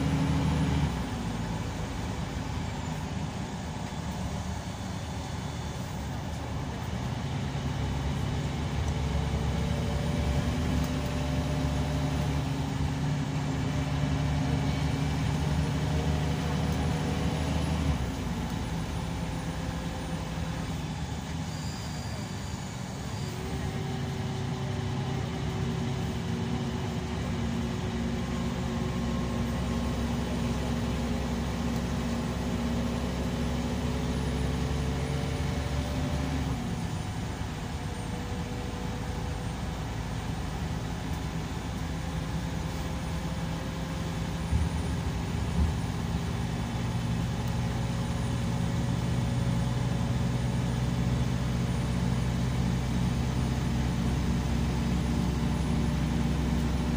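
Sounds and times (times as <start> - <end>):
coach diesel engine running: 0.0 - 56.9
road noise: 0.0 - 56.9.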